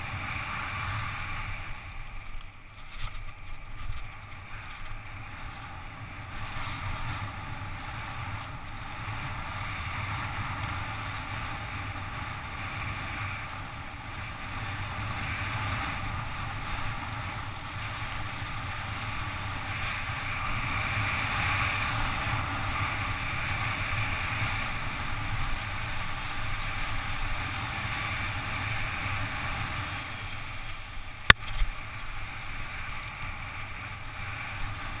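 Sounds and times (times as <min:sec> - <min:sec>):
bicycle tyres rolling on asphalt: 0:00.0 - 0:35.0.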